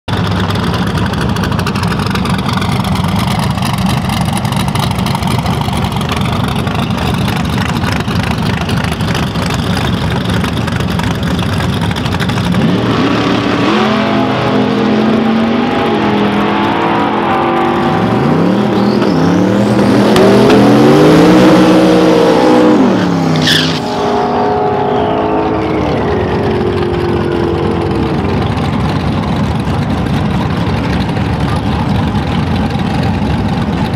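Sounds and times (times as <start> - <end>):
drag car engine revving: 0.1 - 33.9.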